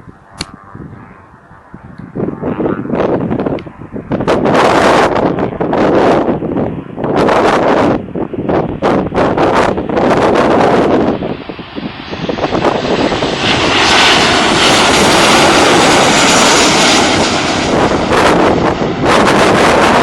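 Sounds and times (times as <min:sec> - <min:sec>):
jet airliner engines passing: 0:00.0 - 0:20.0.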